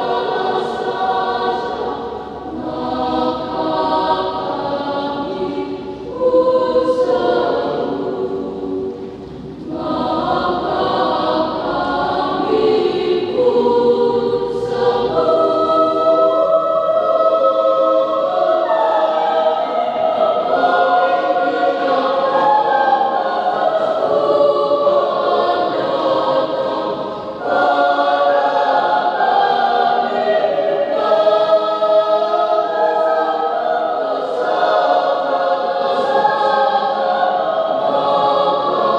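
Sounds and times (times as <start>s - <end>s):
choir singing sacred choral piece: 0.0s - 38.9s.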